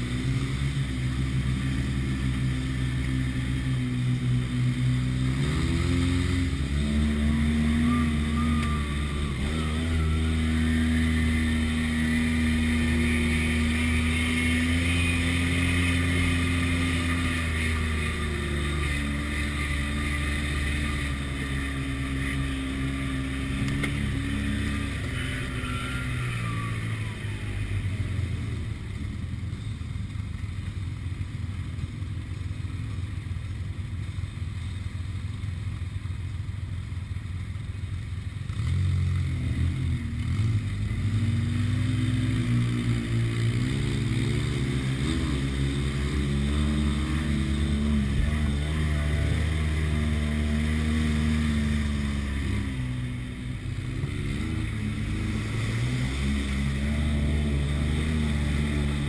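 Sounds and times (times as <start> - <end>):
utility vehicle engine running: 0.0 - 59.0.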